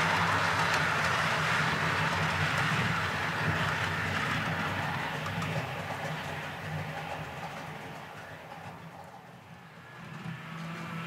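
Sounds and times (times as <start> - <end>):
model train wheels rattling: 0.0 - 11.0.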